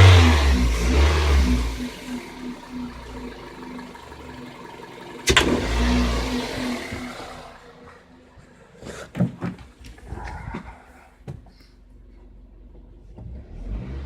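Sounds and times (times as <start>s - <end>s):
car engine revving and idling: 0.0s - 8.9s, 10.0s - 14.0s.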